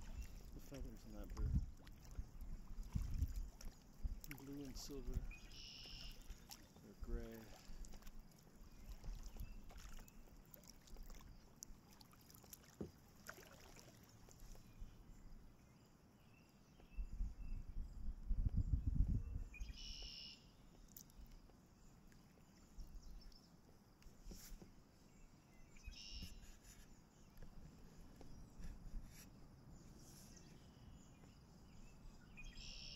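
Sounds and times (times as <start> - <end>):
paddle strokes in water: 0.0 - 15.0, 19.7 - 32.9.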